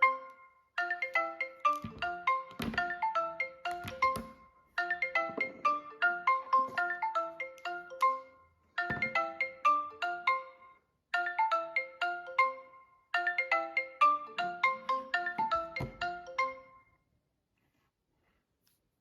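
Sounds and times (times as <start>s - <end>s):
phone ringtone melody: 0.0s - 17.0s.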